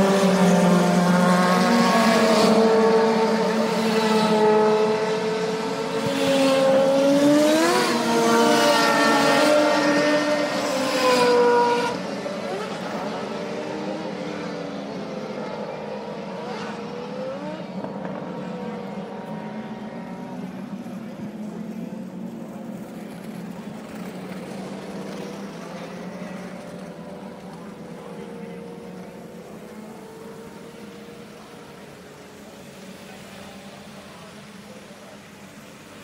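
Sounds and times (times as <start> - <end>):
race car engines passing: 0.0 - 36.0.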